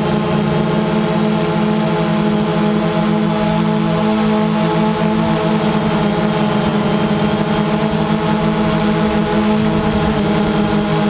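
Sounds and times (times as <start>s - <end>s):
drone rotors humming: 0.0s - 11.0s.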